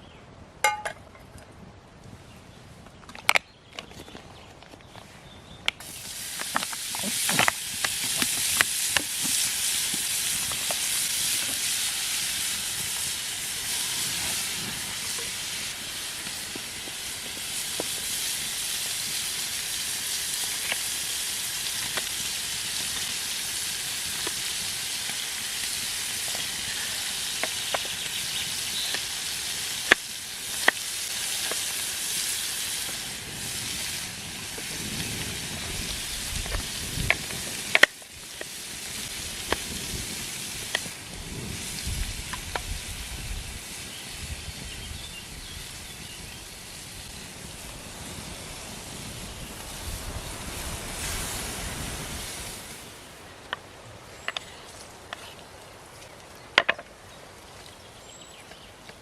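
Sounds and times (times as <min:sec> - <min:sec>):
food sizzling: 0:05.8 - 0:53.2.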